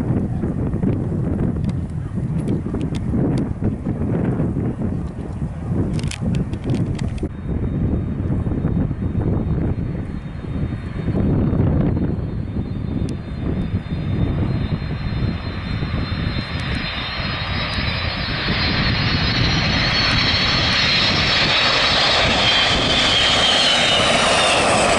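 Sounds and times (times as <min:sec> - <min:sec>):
jet engine rumble and whine: 0:00.0 - 0:24.9.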